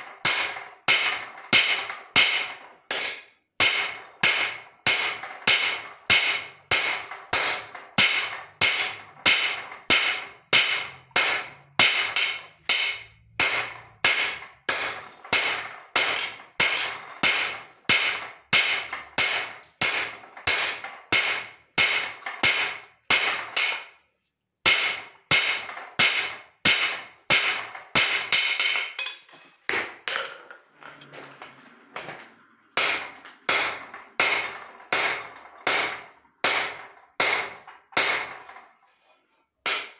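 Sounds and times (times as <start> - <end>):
hammer striking steel on anvil: 0.0 - 24.0, 24.6 - 30.4, 32.8 - 38.6, 39.6 - 39.9.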